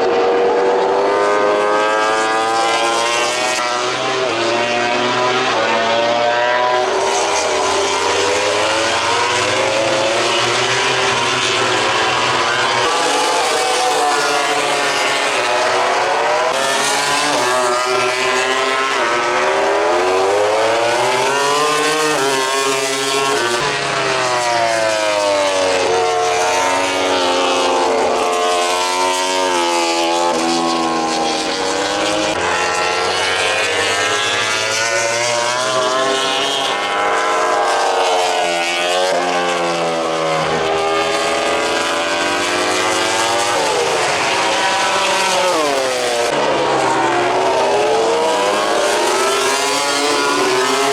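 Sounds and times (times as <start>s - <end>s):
racing motorcycles revving: 0.0s - 50.9s.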